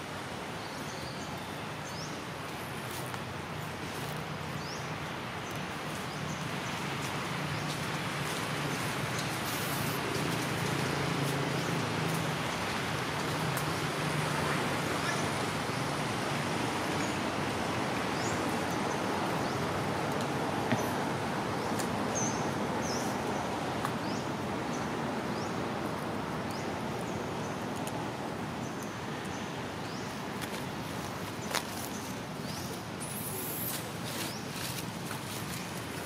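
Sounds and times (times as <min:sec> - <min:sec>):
distant traffic: 0:02.4 - 0:36.0.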